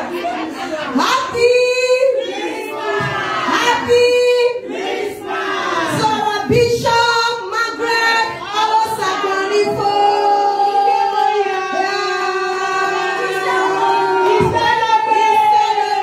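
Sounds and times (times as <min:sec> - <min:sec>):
congregation of women singing: 0:00.0 - 0:16.0.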